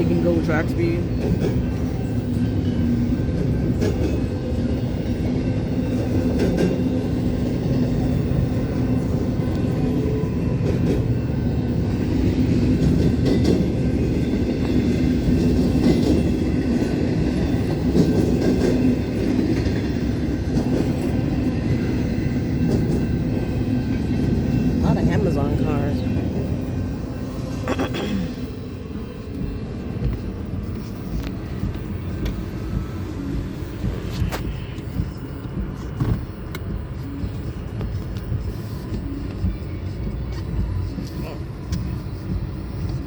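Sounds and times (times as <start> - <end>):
freight train cars rumbling: 0.0 - 43.0.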